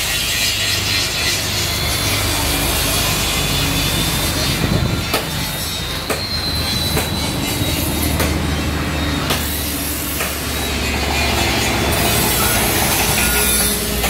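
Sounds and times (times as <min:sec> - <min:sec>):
workshop machinery humming: 0:00.0 - 0:14.0.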